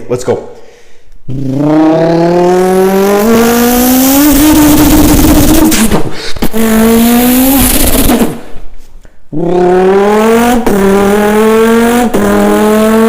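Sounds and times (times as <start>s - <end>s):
person imitating car engine: 1.2s - 8.5s, 9.3s - 13.0s.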